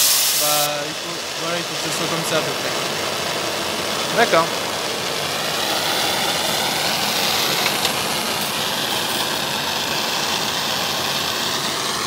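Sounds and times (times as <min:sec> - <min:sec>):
welding torch flame hissing: 0:00.0 - 0:12.0.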